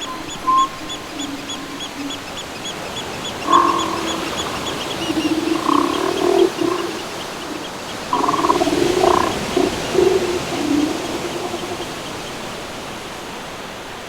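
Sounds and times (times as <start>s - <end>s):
high chirping: 0.0s - 12.2s
low pitched animal calls: 0.0s - 12.2s.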